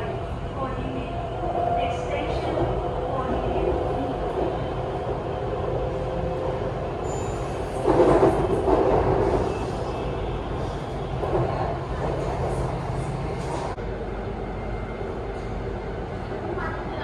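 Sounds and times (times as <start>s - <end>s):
electric train rumbling on track: 0.0s - 17.0s.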